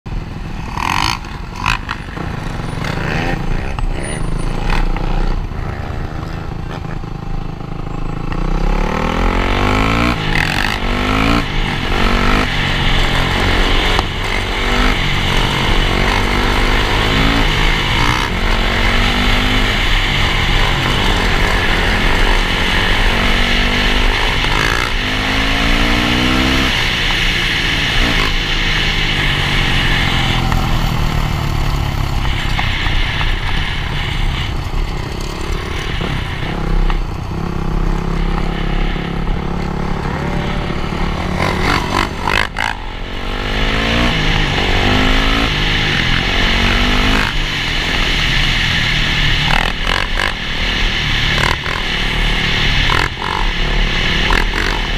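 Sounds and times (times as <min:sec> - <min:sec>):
dirt bike engines accelerating: 0:00.1 - 0:54.9.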